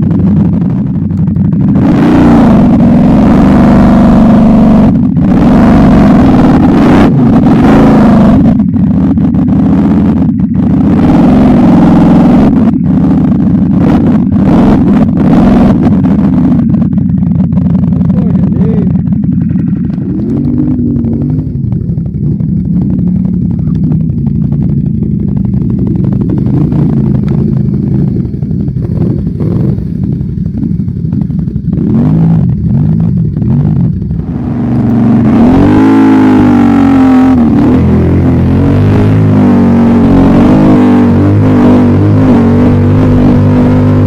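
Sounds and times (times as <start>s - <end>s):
quad bike engine revving: 0.0s - 44.0s.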